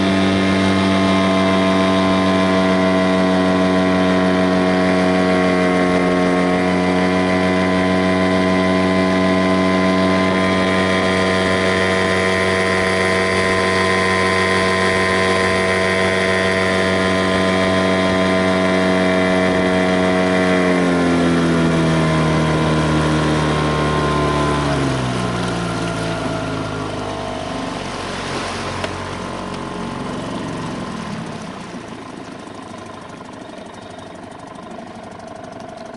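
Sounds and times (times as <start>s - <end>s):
engine running and slowing: 0.0s - 35.9s.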